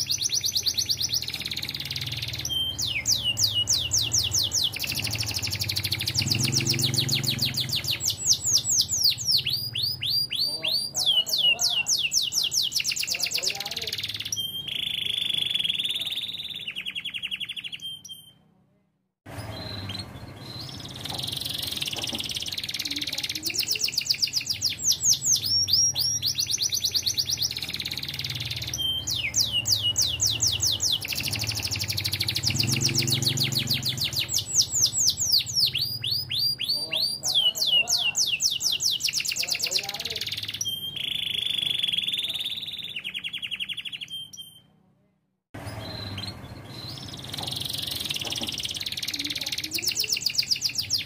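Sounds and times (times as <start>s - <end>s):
canary singing fast trills: 0.0s - 18.4s, 19.3s - 44.7s, 45.6s - 51.0s.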